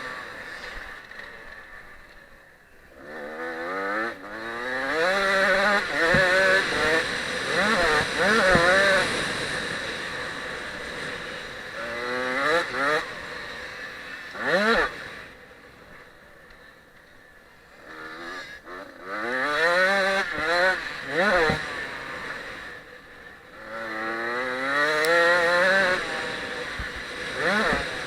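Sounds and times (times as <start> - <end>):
two-stroke motorbike revving: 0.0 - 28.0.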